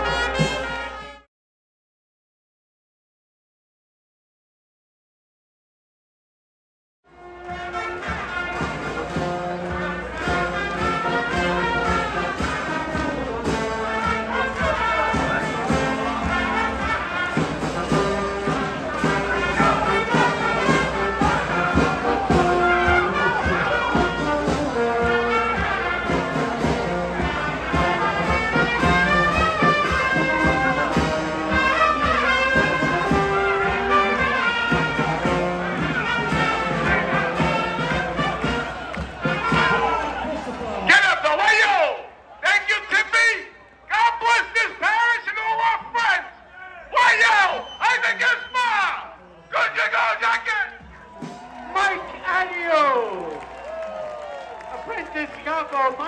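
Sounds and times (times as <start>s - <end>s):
brass band playing: 0.0s - 1.3s, 7.1s - 46.2s, 47.0s - 56.0s.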